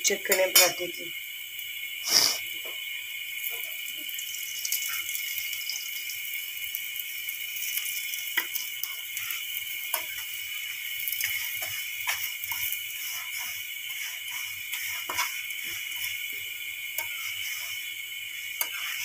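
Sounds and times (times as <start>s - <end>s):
flatbread sizzling on a griddle: 0.0s - 19.0s.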